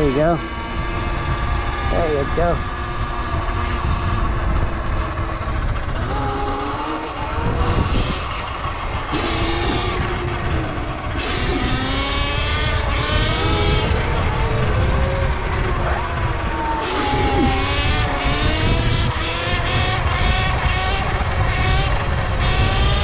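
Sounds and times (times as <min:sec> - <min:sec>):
low rumble: 0:00.0 - 0:22.4
electric dirt bike motors whining: 0:00.0 - 0:23.0.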